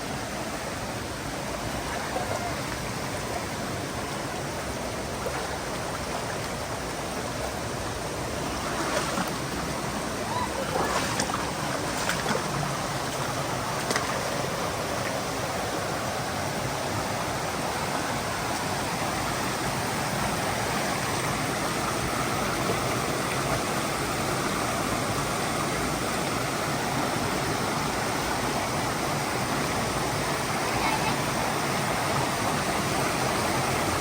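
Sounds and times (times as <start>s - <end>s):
stream water rushing over boulders: 0.0s - 34.0s.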